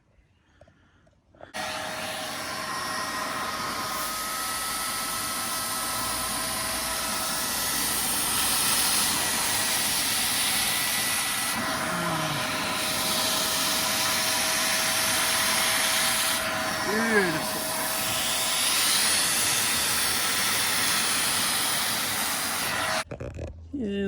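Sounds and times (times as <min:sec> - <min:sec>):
carpet spot cleaner suction: 0:01.6 - 0:23.1.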